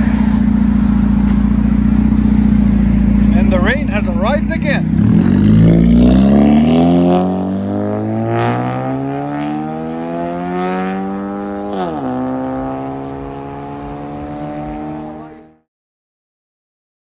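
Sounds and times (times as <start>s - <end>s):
car engine accelerating: 0.0s - 15.7s.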